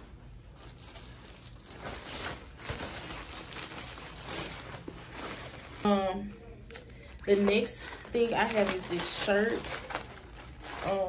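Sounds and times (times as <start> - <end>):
plastic bag crinkling: 0.5 - 11.0.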